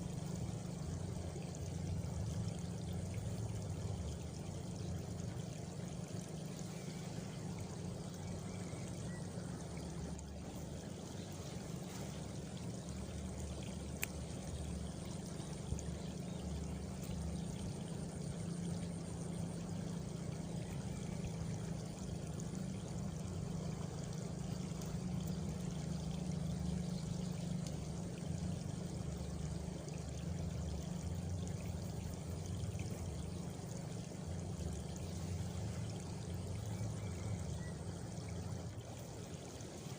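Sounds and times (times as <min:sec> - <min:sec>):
frogs and crickets chorus: 0:04.9 - 0:39.1.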